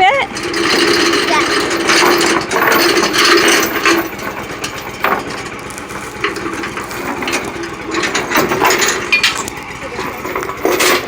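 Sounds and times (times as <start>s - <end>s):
backhoe engine running: 0.0s - 11.0s.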